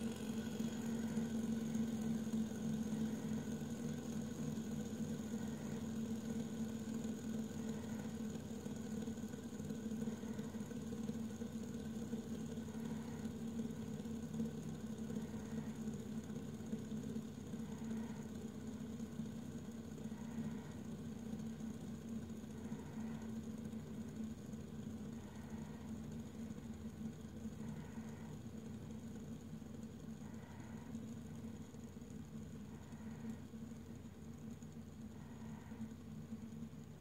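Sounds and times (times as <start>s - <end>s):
fidget spinner humming: 0.0s - 37.0s.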